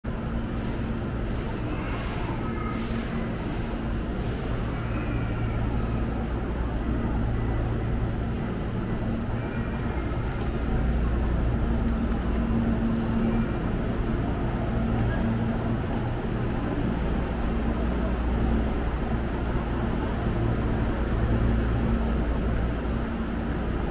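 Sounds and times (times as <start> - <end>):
faint voices: 0.2 - 23.9
electric train humming: 2.8 - 23.9.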